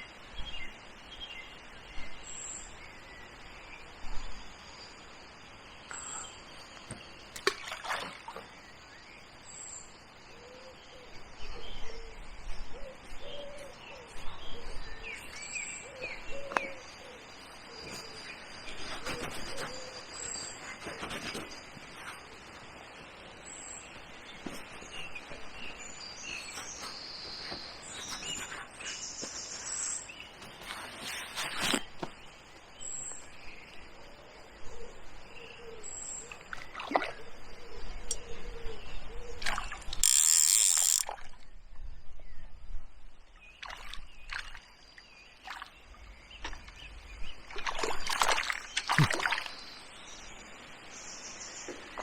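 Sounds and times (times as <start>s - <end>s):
outdoor background noise: 0.0s - 52.0s.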